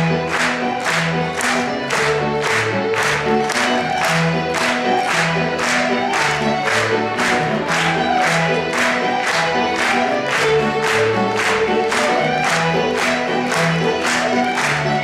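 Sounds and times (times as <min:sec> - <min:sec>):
folk band playing a tune: 0:00.0 - 0:15.0.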